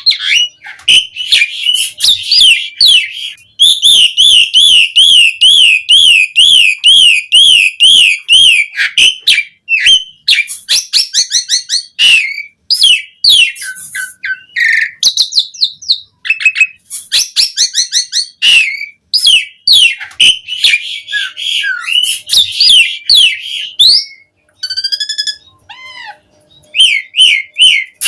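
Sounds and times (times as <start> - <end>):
starling singing whistles and clicks: 0.0 - 25.7, 26.4 - 28.0.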